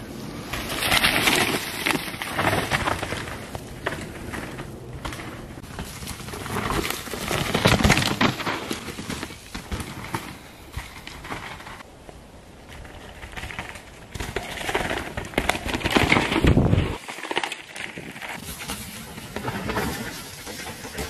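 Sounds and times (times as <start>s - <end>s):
bike tyres rolling over dirt: 0.0s - 21.0s.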